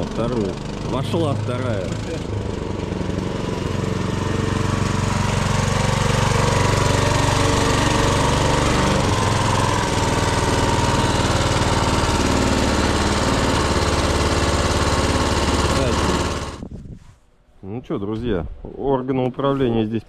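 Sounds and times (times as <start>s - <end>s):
small tractor engine running: 0.0s - 16.6s.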